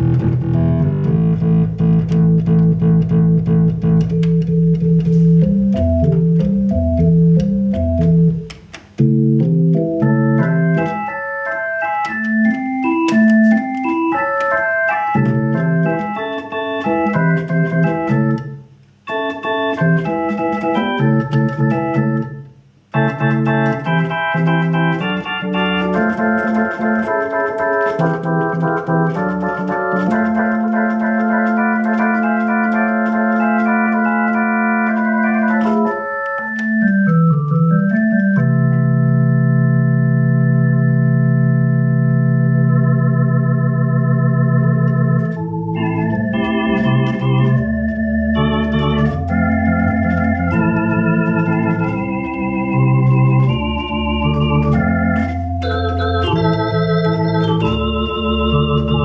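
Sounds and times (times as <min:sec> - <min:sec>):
electric organ playing chords: 0:00.0 - 0:59.0.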